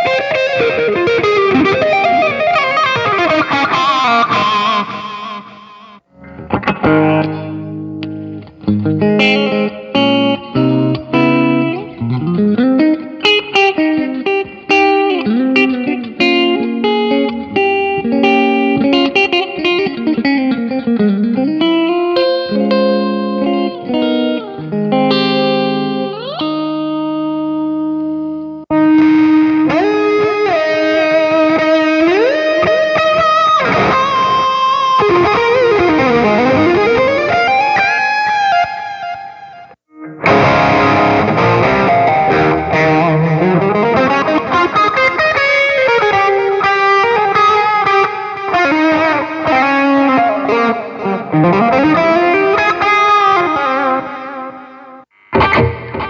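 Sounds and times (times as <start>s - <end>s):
electric guitar lead line: 0.0s - 56.0s.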